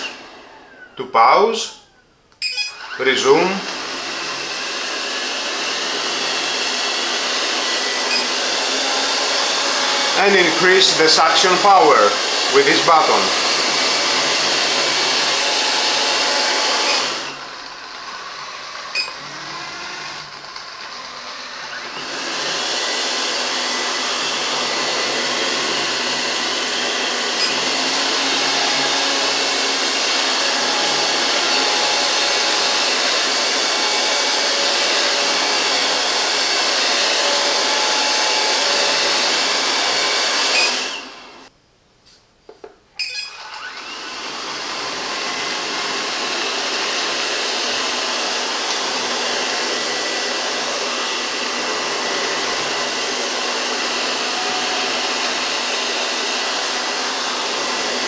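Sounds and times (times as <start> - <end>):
robot vacuum suction motor: 0.0 - 41.5, 43.0 - 58.0.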